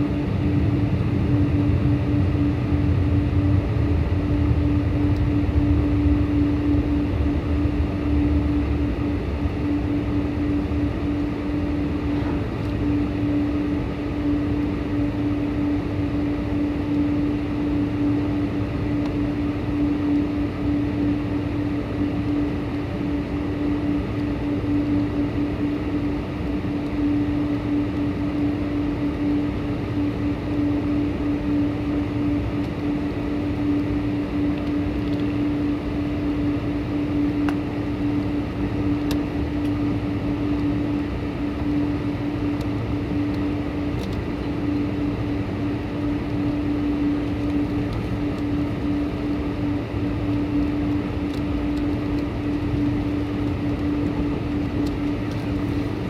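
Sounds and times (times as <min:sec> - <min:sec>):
airliner drone: 0:00.0 - 0:56.0.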